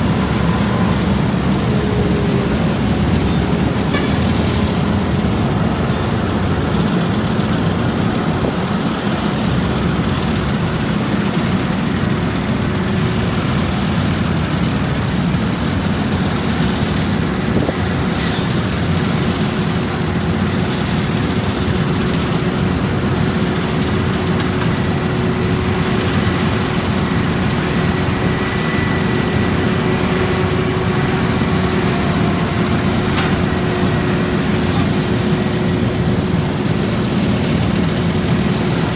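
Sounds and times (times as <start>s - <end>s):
diesel paving machinery running: 0.0s - 38.9s.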